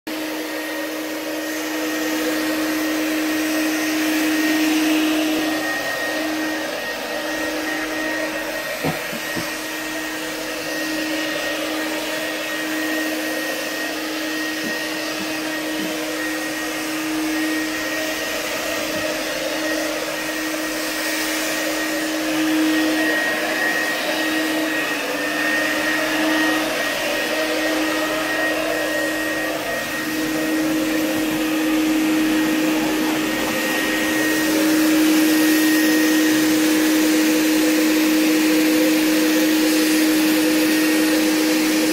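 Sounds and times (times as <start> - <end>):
fogging machine humming and hissing: 0.1 - 41.9.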